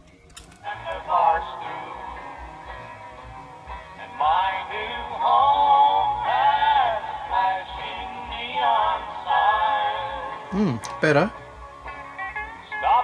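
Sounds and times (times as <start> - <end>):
country song from small speaker: 0.0 - 13.0.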